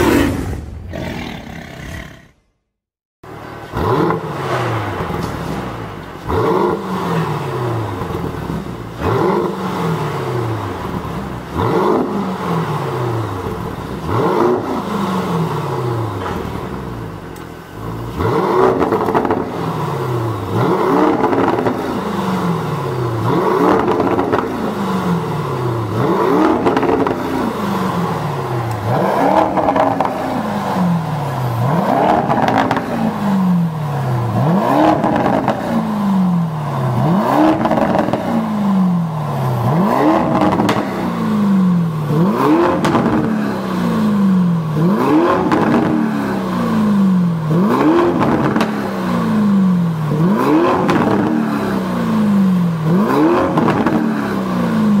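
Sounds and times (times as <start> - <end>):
car engine revving: 3.3 - 55.0.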